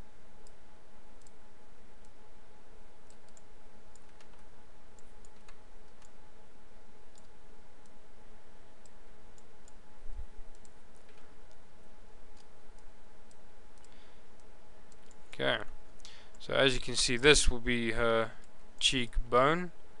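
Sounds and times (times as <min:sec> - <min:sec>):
background hum: 0:00.0 - 0:20.0.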